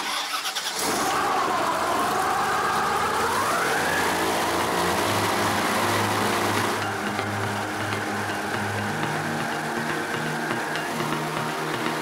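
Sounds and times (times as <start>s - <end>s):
airboat engine and fan revving: 0.8s - 12.0s.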